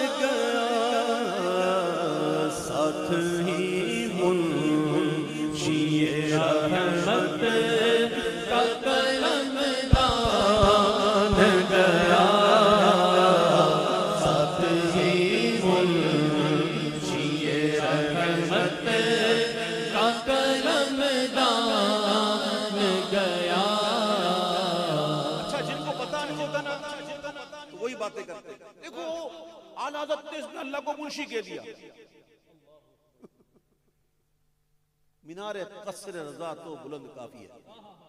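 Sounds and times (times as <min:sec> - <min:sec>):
man singing devotional verse: 0:00.0 - 0:31.9.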